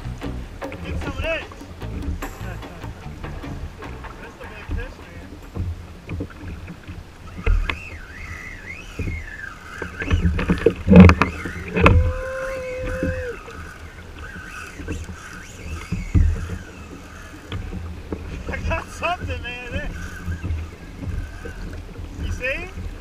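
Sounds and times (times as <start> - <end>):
knocks and thumps from fishing rod: 0.0 - 12.2, 12.8 - 23.0
water lapping against kayak hull: 0.0 - 23.0.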